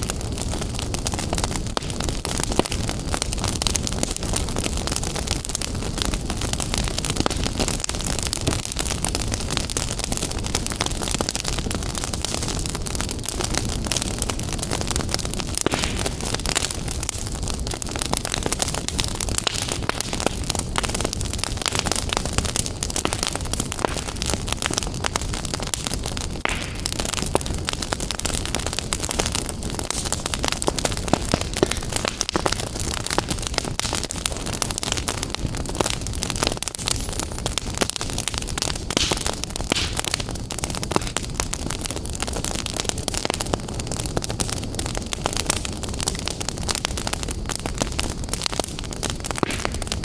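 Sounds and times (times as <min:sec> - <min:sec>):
fire crackling: 0:00.0 - 0:50.0.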